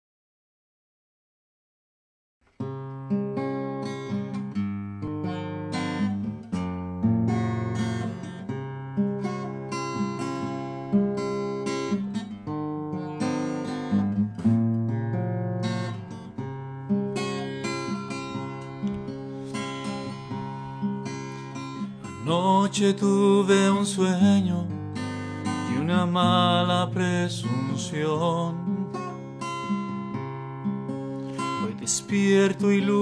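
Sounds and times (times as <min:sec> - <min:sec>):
acoustic guitar strumming chords: 0:02.6 - 0:33.0.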